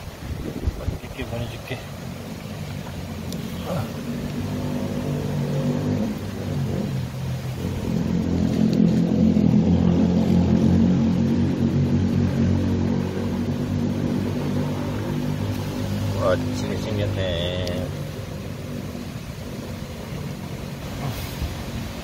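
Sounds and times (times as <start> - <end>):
engine running with low hum: 0.1 - 22.0.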